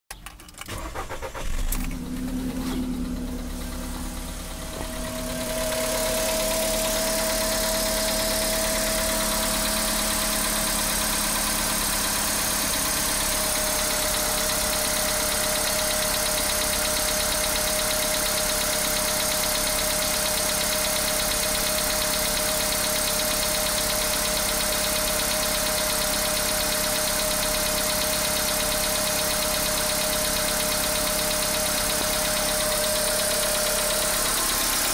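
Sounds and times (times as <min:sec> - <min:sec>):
car engine idling with knock: 0:00.7 - 0:34.9.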